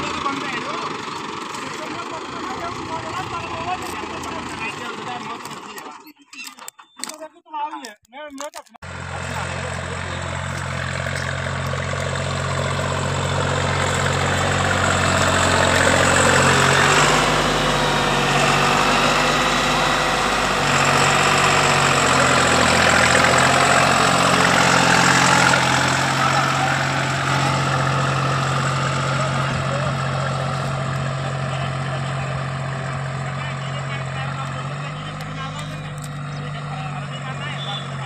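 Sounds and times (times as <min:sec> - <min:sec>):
tractor diesel engine: 0:00.0 - 0:38.0.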